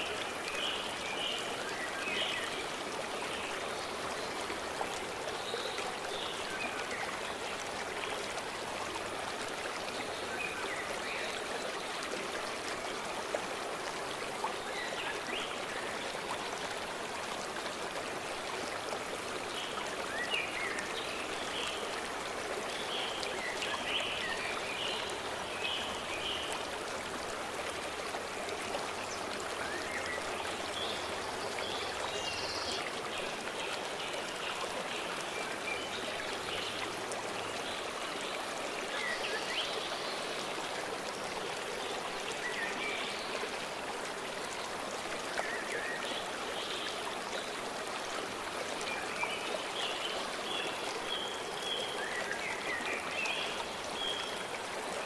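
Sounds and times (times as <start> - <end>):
stream rushing over stones: 0.0 - 55.0.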